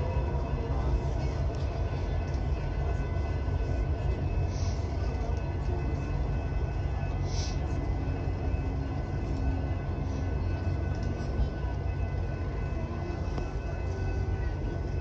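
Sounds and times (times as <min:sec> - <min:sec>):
crowd talking: 0:00.0 - 0:15.0
train boxcars rolling by: 0:00.0 - 0:15.0.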